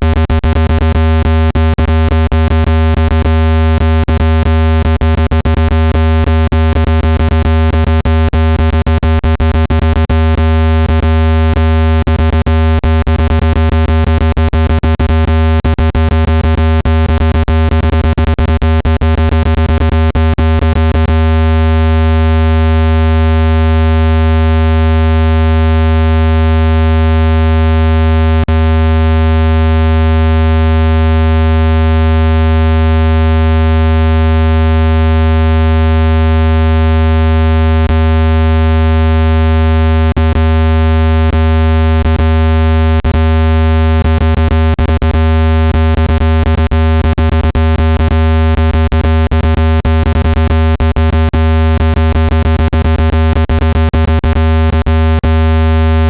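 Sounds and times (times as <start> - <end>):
deep buzzy tone: 0.0 - 56.0.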